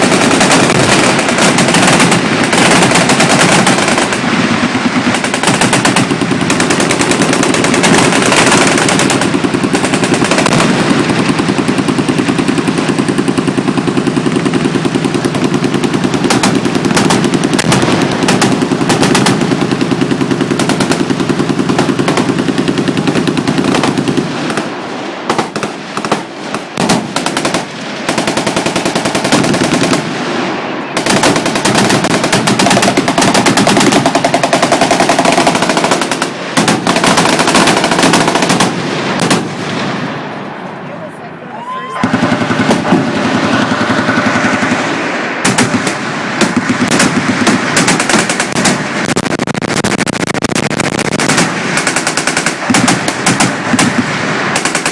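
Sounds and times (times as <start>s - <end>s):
machine gun fire: 0.0s - 40.4s, 42.0s - 54.9s.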